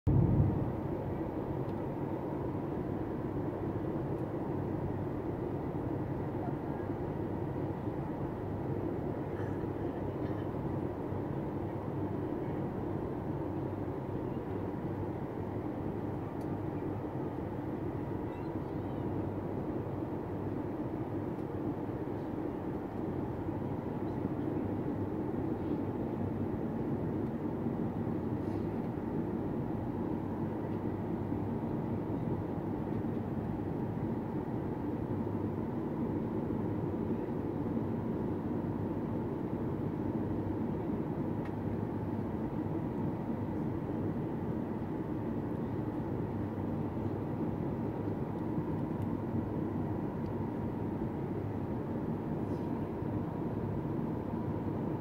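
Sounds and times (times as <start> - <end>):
airplane cabin engine rumble: 0.1 - 55.0.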